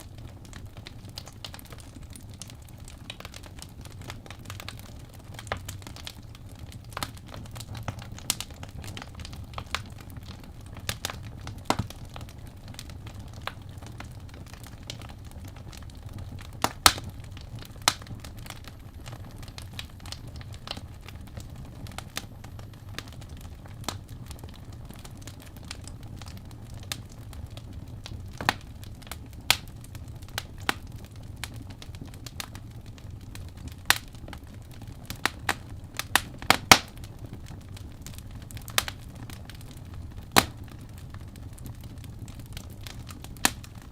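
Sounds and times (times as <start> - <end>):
low fire rumble: 0.0 - 43.9
wood fire pops and snaps: 0.0 - 43.9.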